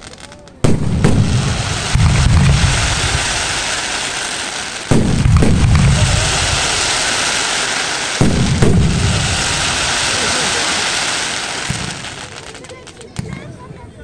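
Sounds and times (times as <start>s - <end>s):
fireworks booming: 0.0s - 13.7s
background hiss: 0.0s - 14.0s.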